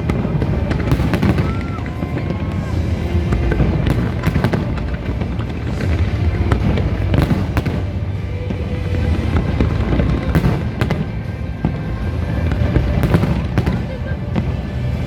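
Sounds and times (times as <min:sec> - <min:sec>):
fireworks bangs and crackles: 0:00.0 - 0:15.0
low rumble: 0:00.0 - 0:15.0
music playing: 0:00.0 - 0:15.0.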